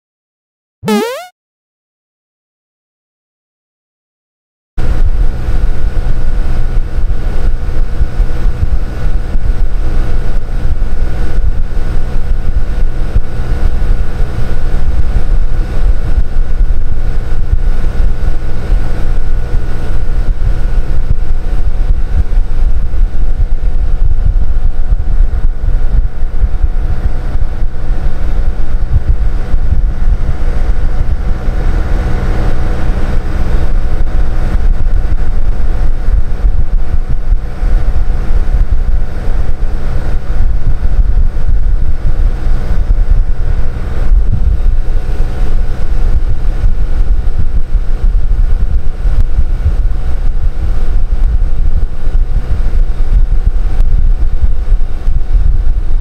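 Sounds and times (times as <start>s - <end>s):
air conditioner unit humming: 4.8s - 56.0s.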